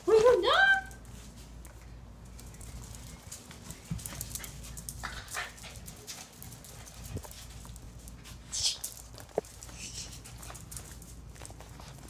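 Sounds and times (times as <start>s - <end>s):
dog scuffling: 0.0s - 12.0s.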